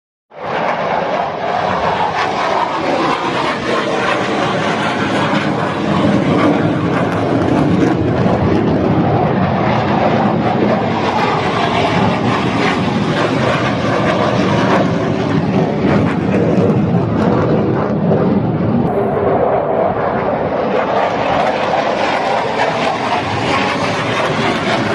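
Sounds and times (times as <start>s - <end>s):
jet engine roar: 0.3s - 24.9s.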